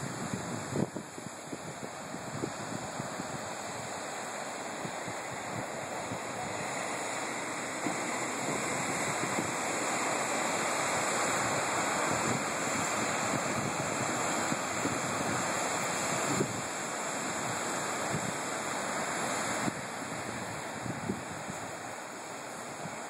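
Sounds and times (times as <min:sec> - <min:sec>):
surf breaking over rocks: 0:00.0 - 0:23.0.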